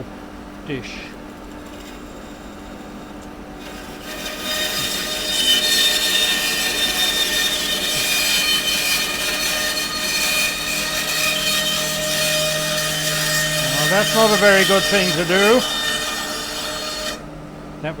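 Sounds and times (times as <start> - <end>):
power saw motor hum: 0.6 - 17.3
saw blade cutting wood: 0.8 - 17.3.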